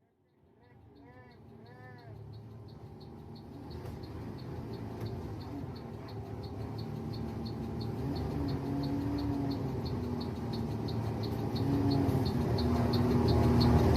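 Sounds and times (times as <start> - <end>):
bus engine running: 0.0 - 13.9
turn signal ticking: 0.0 - 13.9.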